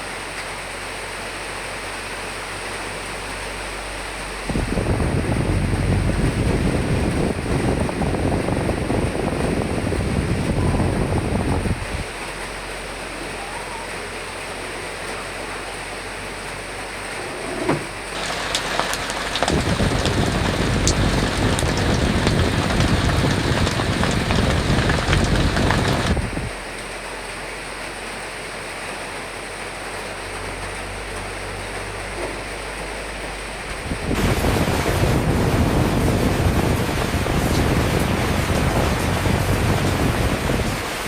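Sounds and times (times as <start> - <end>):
heavy rain with drop taps: 0.0 - 41.0
steady rain: 0.0 - 41.0
wind: 0.0 - 41.0.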